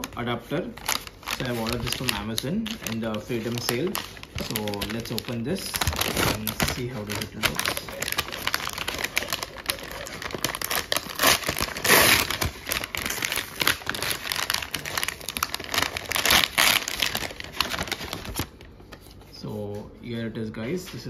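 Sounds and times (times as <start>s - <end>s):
paper envelope crinkling: 0.0s - 19.2s
paper tearing: 1.3s - 18.5s.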